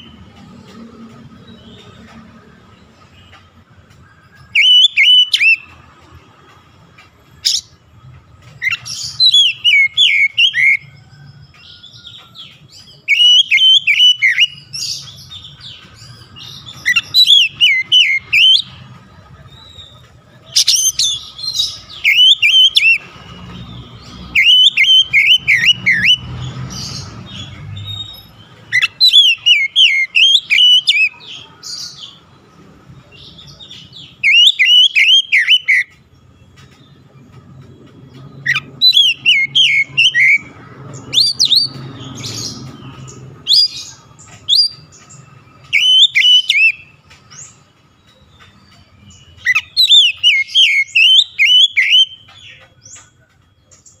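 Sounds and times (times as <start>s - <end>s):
songbird whistling: 4.2s - 5.8s, 7.4s - 7.8s, 8.5s - 18.8s, 19.5s - 32.2s, 33.0s - 36.9s, 38.2s - 54.0s.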